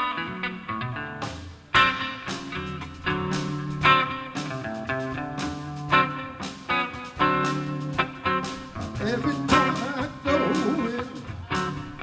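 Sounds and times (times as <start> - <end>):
blues band playing: 0.0 - 12.0.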